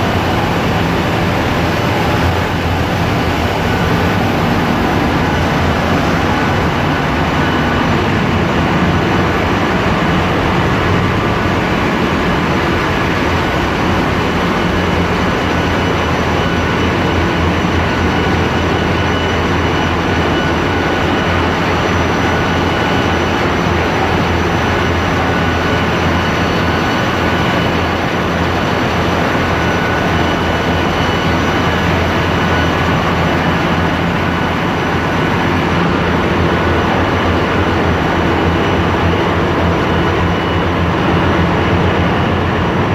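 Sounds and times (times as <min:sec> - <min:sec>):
diesel engine drone: 0:00.0 - 0:42.9
high-pitched machinery whines: 0:00.0 - 0:42.9.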